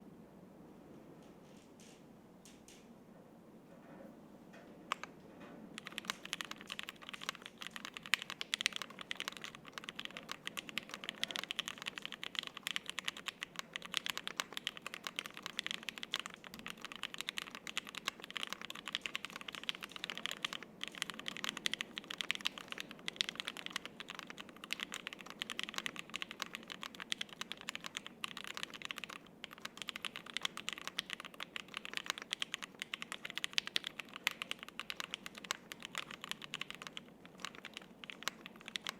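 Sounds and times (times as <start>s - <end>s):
typing on a mechanical keyboard: 4.9s - 5.2s, 5.8s - 38.9s.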